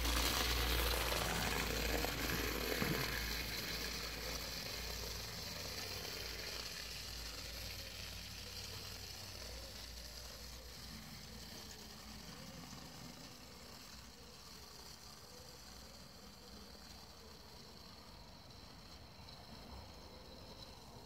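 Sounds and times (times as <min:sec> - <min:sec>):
toy wagons rattling on track: 0:00.0 - 0:21.0
wind-up toy motor whirring: 0:00.0 - 0:21.0.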